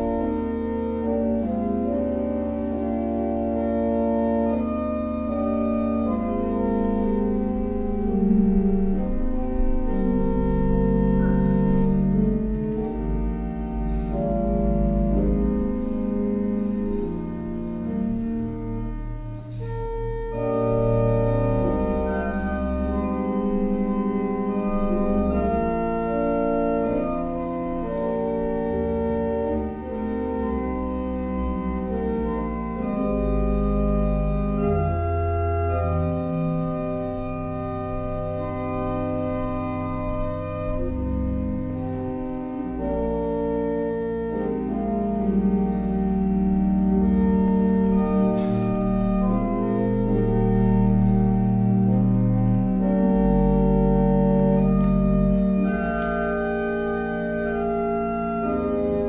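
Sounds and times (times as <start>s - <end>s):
organ chords: 0.0s - 59.0s.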